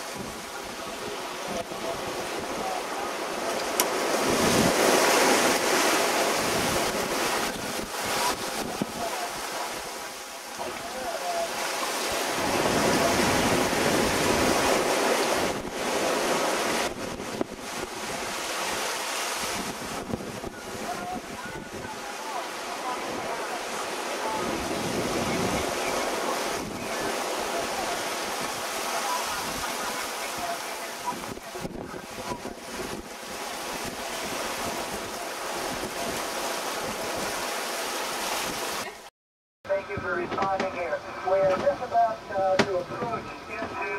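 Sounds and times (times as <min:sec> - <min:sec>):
wind buffeting microphone: 0:00.0 - 0:11.2, 0:12.0 - 0:38.8
rushing sea: 0:00.0 - 0:39.1, 0:39.7 - 0:43.9.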